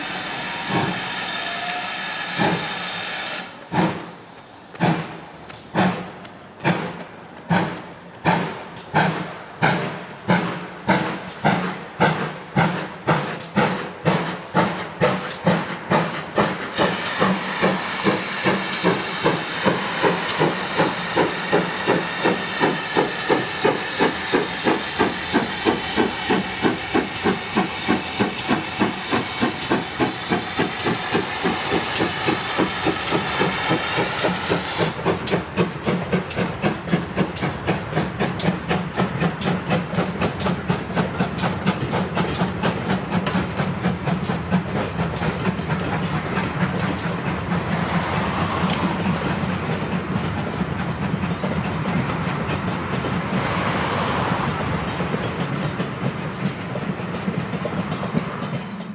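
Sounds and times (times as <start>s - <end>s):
steam hiss: 0.0s - 49.7s
steam locomotive exhaust beats: 0.0s - 58.9s
train rumble: 0.0s - 58.9s.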